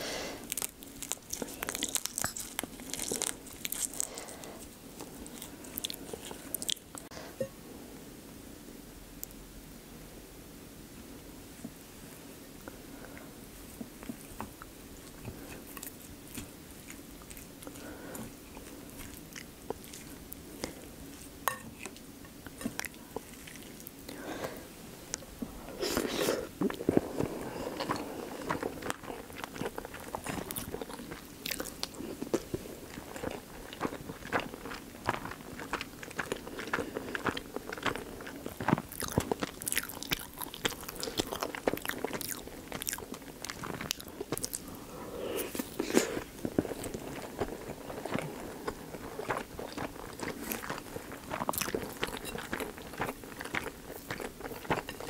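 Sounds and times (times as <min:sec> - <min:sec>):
wet chewing: 0:00.4 - 0:07.1, 0:13.7 - 0:24.3, 0:25.1 - 0:44.8, 0:45.4 - 0:55.0.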